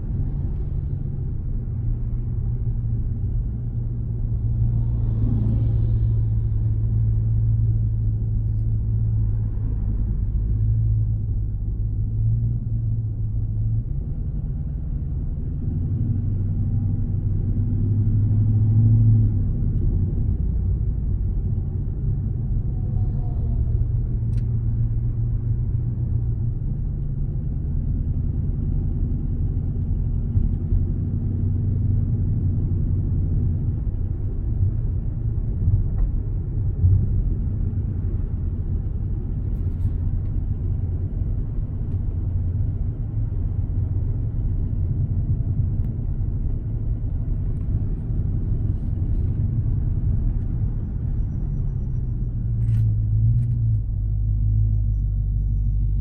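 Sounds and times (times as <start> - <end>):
car engine exhaust drone: 0.0 - 56.0.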